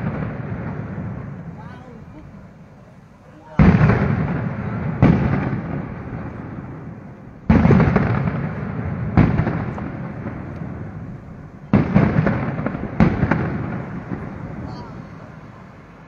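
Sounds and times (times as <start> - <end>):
fireworks booming and crackling: 0.0 - 16.0.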